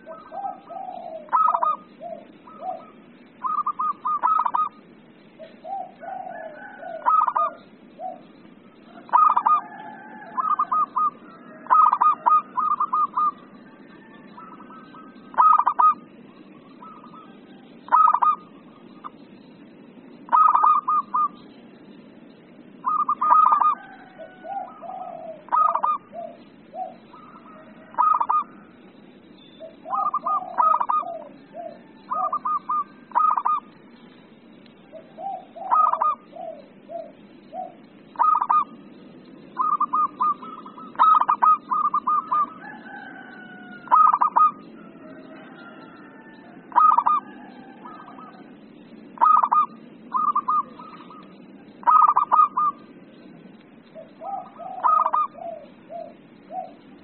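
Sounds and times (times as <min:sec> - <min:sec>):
dove cooing: 0:00.0 - 0:19.4, 0:20.2 - 0:57.0.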